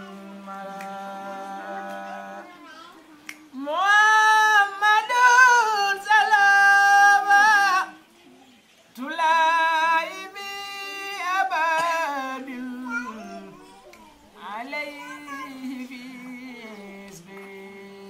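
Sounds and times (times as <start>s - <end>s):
solo voice chanting: 0.0s - 8.1s, 9.0s - 18.0s.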